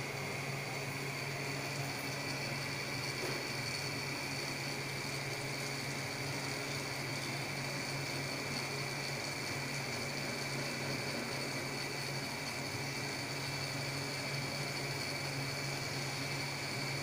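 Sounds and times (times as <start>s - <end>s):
gear motor humming with whine: 0.0s - 17.0s.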